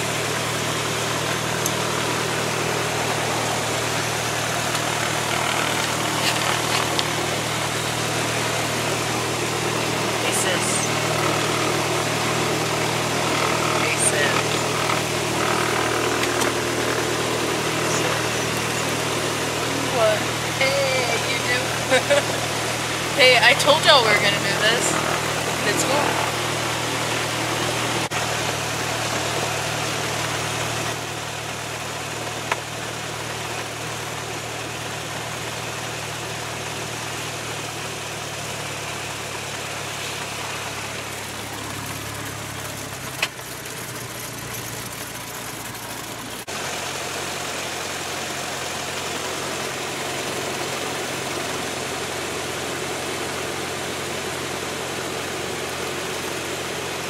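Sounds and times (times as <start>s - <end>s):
light airplane engine and propeller: 0.0s - 57.0s.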